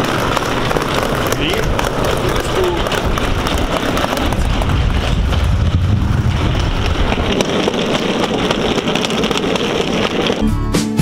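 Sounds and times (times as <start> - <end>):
suitcase wheels rattling on paving: 0.0 - 10.5.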